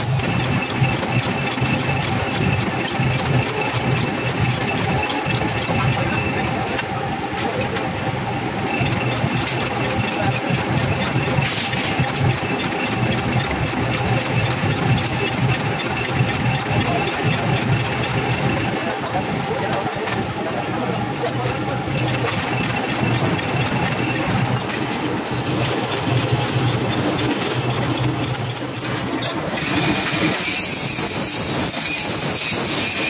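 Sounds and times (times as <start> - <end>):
machine hum and whine: 0.0 - 33.0
rapid metallic clicking: 0.0 - 33.0.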